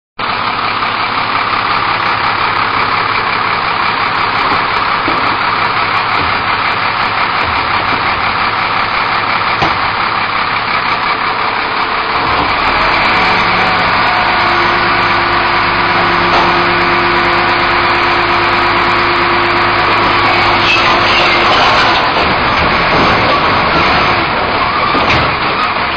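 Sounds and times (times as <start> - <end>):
truck engine idling: 0.2 - 25.9
hydraulic whine: 1.5 - 25.9.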